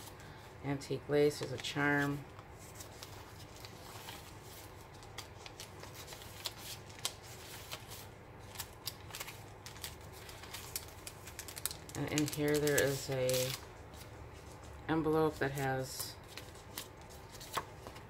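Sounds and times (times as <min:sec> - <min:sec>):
paper pages rustling: 0:01.3 - 0:18.0.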